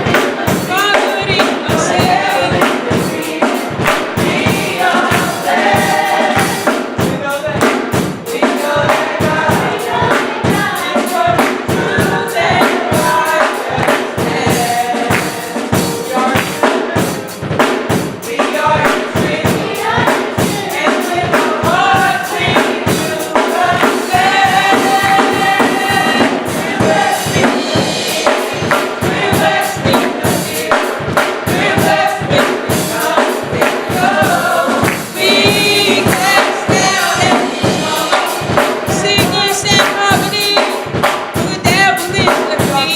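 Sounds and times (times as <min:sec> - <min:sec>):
band with drum beat: 0:00.0 - 0:42.9
choir singing gospel: 0:00.0 - 0:42.9.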